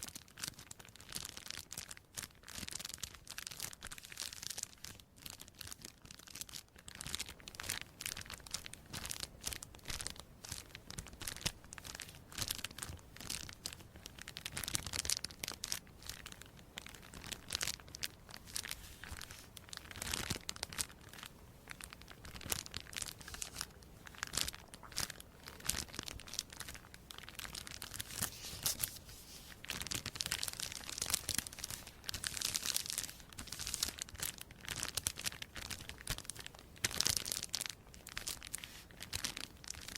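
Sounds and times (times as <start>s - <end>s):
crisp crinkling and crackling: 0.0s - 39.9s.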